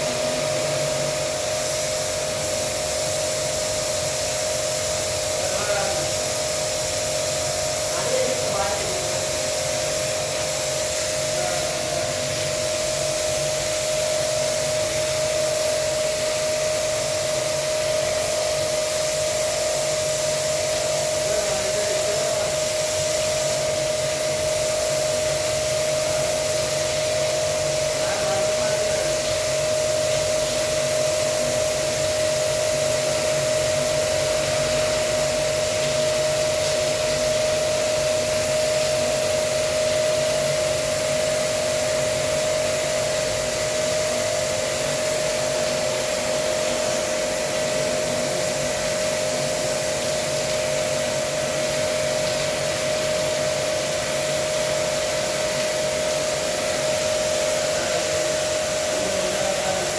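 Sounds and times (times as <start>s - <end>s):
pressure washer motor whine: 0.0s - 59.9s
water jet hissing: 0.0s - 59.9s.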